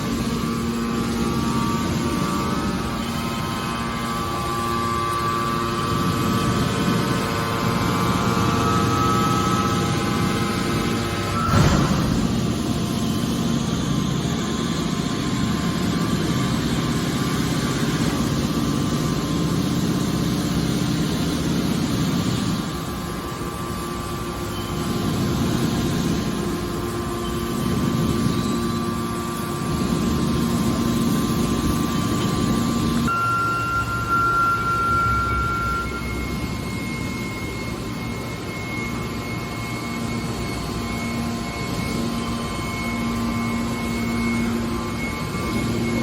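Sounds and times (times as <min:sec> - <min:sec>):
baler machine drone: 0:00.0 - 0:46.0
high steady whine: 0:00.0 - 0:46.0.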